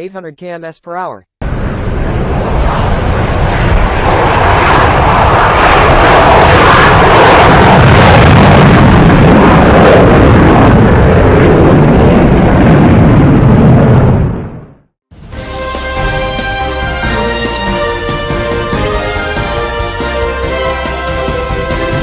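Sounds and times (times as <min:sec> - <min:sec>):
jet engine roar: 0:01.4 - 0:14.6, 0:15.2 - 0:22.0.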